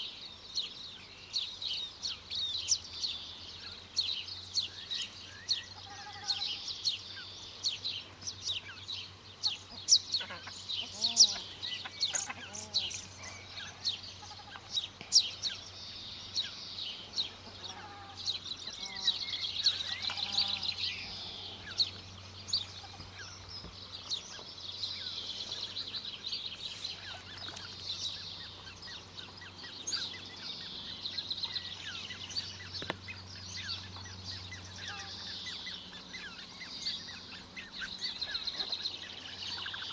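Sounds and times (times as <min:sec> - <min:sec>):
bird chicks peeping: 0:00.0 - 0:39.9.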